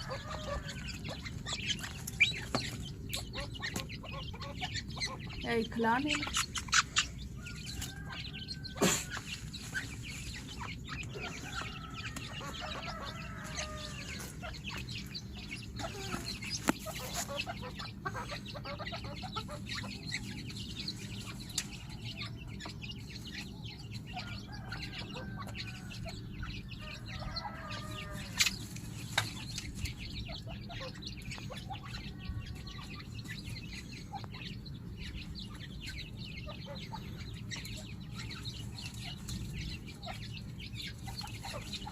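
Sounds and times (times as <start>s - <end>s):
birds calling softly: 0.0s - 41.9s.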